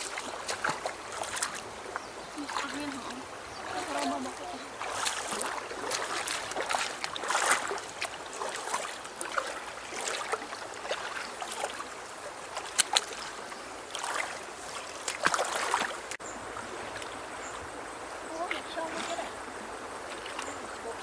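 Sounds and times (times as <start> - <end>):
river water splashing: 0.0 - 21.0.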